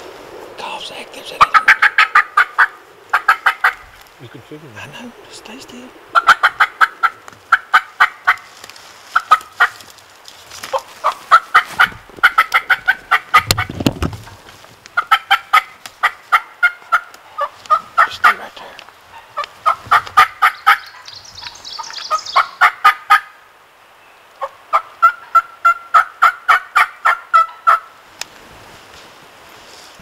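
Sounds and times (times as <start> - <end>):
wild turkeys yelping: 1.2 - 4.1, 4.8 - 10.0, 10.7 - 23.4, 24.4 - 27.9.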